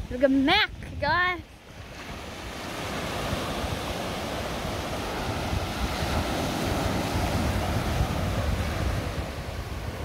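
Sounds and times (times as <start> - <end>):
small waves washing up a beach: 0.0 - 10.0
wind rumbling on microphone: 0.0 - 10.0.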